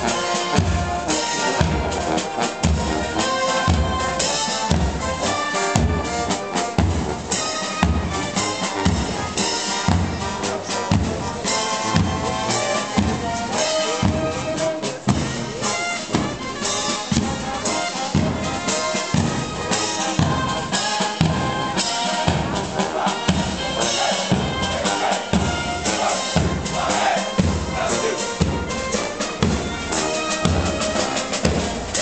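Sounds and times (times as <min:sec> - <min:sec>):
brass and drums music: 0:00.0 - 0:32.0.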